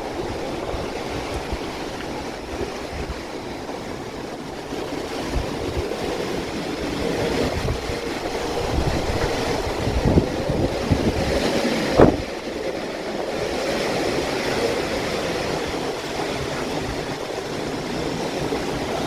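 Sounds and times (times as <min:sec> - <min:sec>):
heavy rain: 0:00.0 - 0:19.0
strong wind gusts: 0:00.0 - 0:19.0
wind buffeting microphone: 0:00.0 - 0:19.0.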